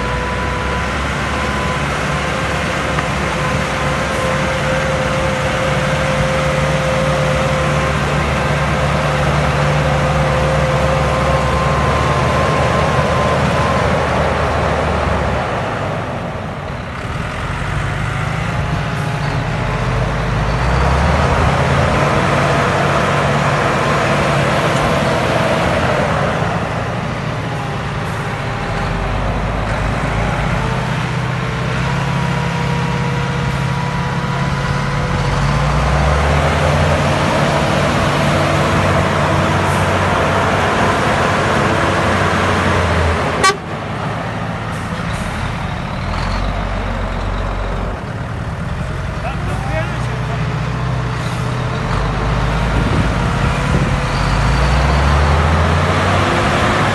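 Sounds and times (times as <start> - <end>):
heavy diesel engines under load: 0.0 - 56.9.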